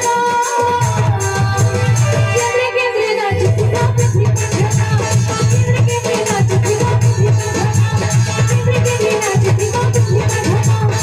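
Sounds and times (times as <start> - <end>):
keyboard and percussion: 0.0 - 11.0
woman singing into microphone: 0.0 - 11.0.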